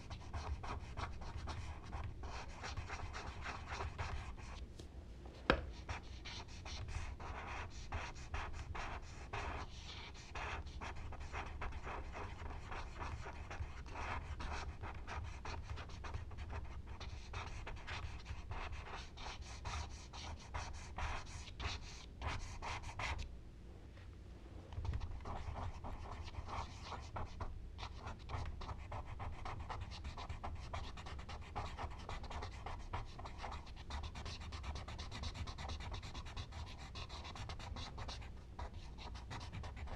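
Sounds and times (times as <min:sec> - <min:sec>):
charcoal scratching on paper: 0:00.0 - 0:04.6, 0:05.5 - 0:23.2, 0:24.9 - 0:39.9.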